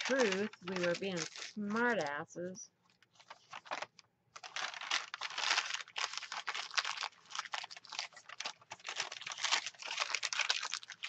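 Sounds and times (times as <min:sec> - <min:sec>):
paper crumpling: 0:00.0 - 0:02.2, 0:02.8 - 0:11.0.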